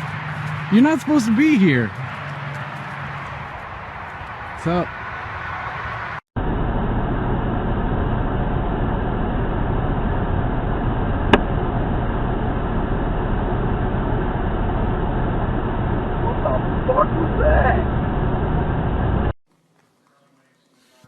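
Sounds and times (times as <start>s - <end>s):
steady rumbling noise: 0.0s - 19.3s.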